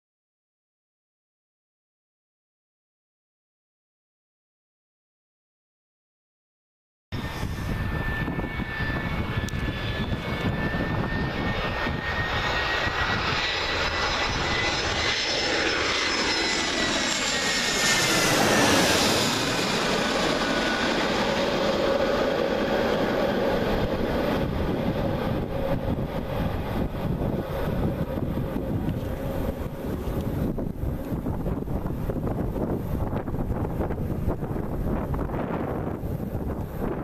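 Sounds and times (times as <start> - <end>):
jet engines roaring overhead: 7.2 - 37.0.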